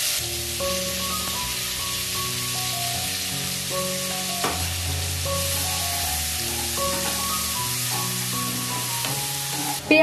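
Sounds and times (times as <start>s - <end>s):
onion and garlic sizzling in oil: 0.0s - 10.0s
background music: 0.2s - 10.0s.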